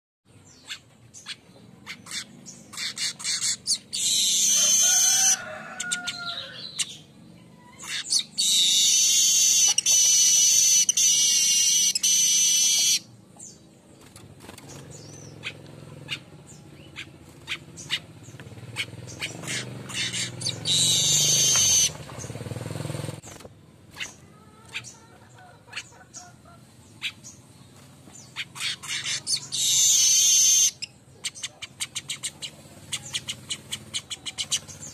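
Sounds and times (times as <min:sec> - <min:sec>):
bird buzzing song: 0:00.4 - 0:07.1, 0:07.9 - 0:25.1, 0:25.7 - 0:34.9.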